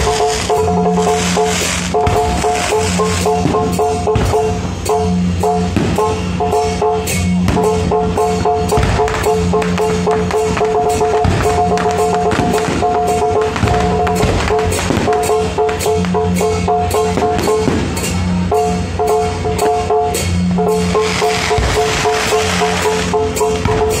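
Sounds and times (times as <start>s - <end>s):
fireworks crackling and popping: 0.0s - 24.0s
loud music with drums: 0.0s - 24.0s
repeating two-note tone: 0.0s - 24.0s.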